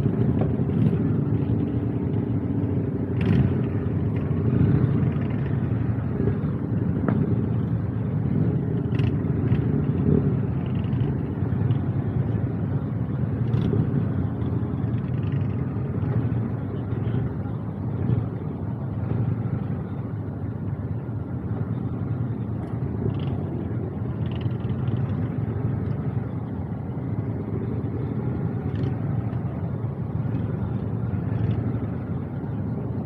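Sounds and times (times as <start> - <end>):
engine and road rumble: 0.0 - 33.0.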